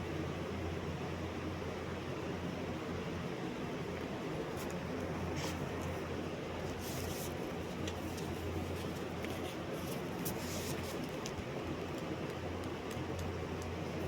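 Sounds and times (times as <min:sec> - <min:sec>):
constant hiss: 0:00.0 - 0:14.0.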